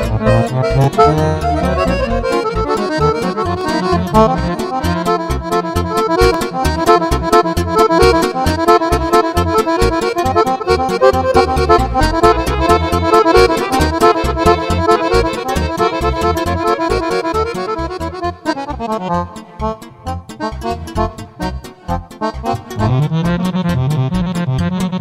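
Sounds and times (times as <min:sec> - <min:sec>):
accordions playing fast: 0:00.0 - 0:25.0
pulsing bass beat: 0:00.0 - 0:25.0.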